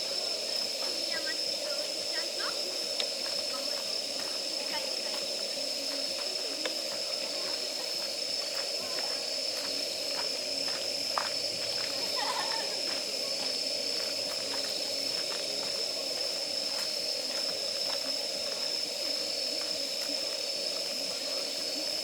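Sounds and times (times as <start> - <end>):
high-pitched tone and hiss: 0.0 - 22.0
campfire crackling and popping: 0.6 - 5.4, 6.0 - 19.0.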